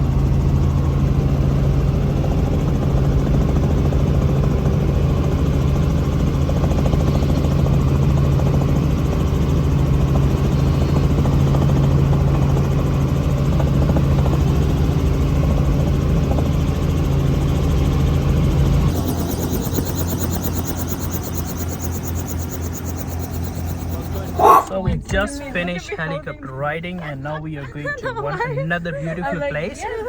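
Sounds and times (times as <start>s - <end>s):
helicopter engine and rotor: 0.0s - 25.0s.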